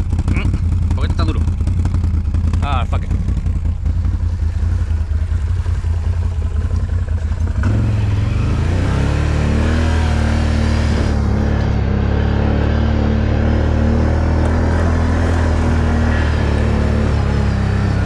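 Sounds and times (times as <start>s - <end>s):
atv engine idling and revving: 0.0s - 18.0s.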